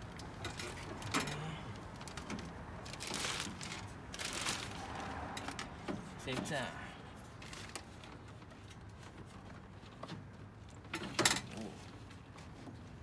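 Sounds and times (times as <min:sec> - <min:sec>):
faint handling noises: 0:00.0 - 0:13.0.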